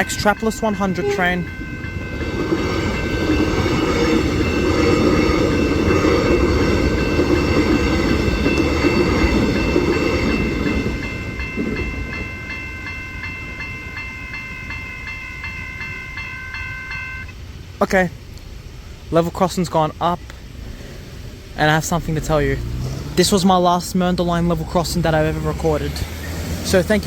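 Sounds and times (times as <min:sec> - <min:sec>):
level crossing warning bells: 0:00.0 - 0:18.3, 0:21.6 - 0:27.0
electric train rumble: 0:00.0 - 0:27.0.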